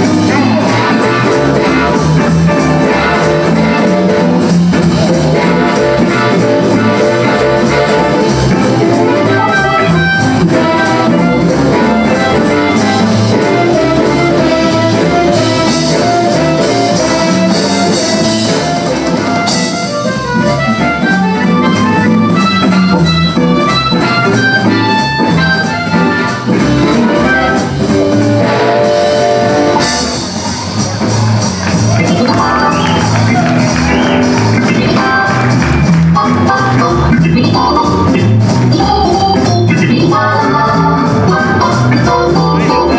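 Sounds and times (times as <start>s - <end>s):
amplified harmonica: 0.0s - 42.9s
drums: 0.0s - 42.9s
electric guitar: 0.0s - 42.9s
organ: 0.0s - 42.9s.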